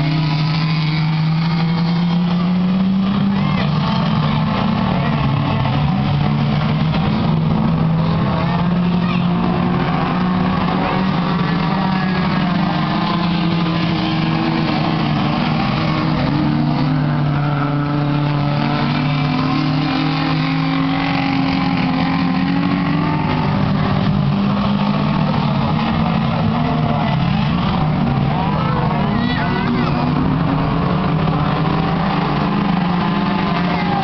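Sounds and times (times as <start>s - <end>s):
race car engines: 0.0s - 34.0s.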